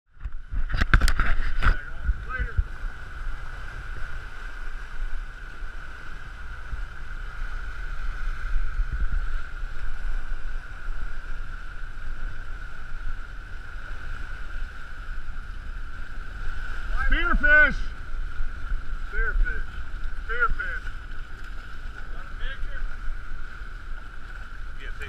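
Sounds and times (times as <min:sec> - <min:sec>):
boat engine humming: 0:00.1 - 0:25.0
water rushing in wake: 0:00.1 - 0:25.0
wind buffeting microphone: 0:00.1 - 0:25.0.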